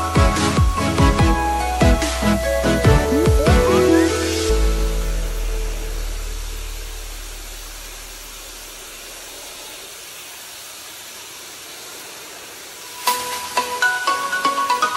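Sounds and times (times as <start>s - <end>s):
pressure washer spraying wood: 0.1s - 14.9s.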